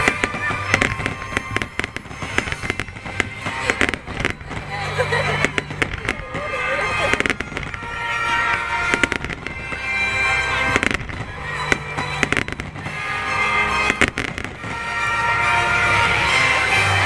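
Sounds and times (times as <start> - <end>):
fireworks exploding and crackling: 0.0 - 17.0
music over loudspeakers: 0.0 - 17.0.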